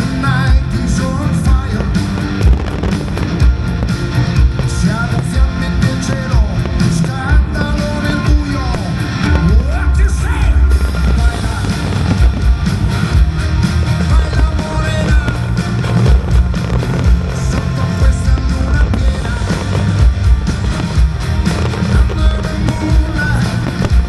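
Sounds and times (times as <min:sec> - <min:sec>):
music with singing and heavy bass: 0:00.0 - 0:24.0.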